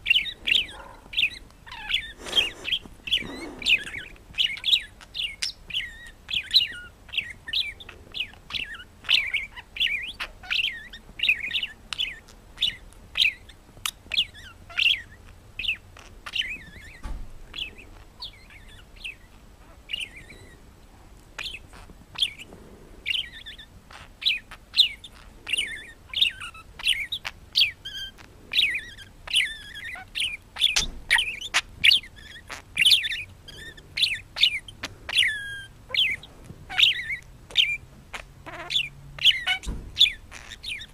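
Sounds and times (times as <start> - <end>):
parrot chirping: 0.0 - 20.7, 21.3 - 40.9.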